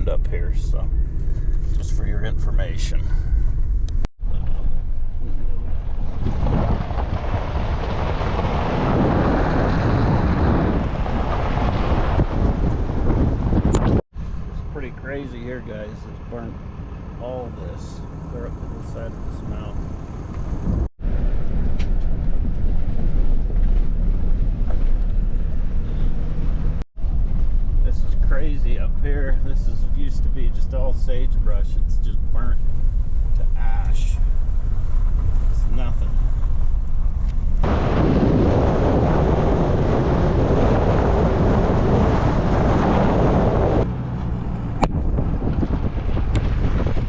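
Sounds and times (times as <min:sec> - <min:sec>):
wind noise: 0:00.0 - 0:14.8, 0:18.5 - 0:47.0
vehicle engine and road rumble: 0:00.0 - 0:47.0.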